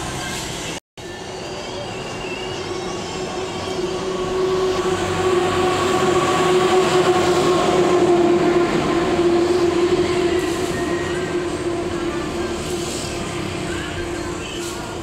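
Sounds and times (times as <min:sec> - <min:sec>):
road noise hiss: 0:00.0 - 0:15.0
vehicle engine droning: 0:00.0 - 0:15.0.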